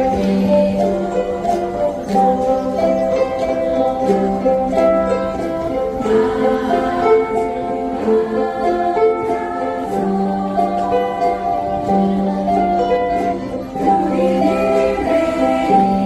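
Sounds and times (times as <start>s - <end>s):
ukulele ensemble strumming: 0.0s - 16.0s.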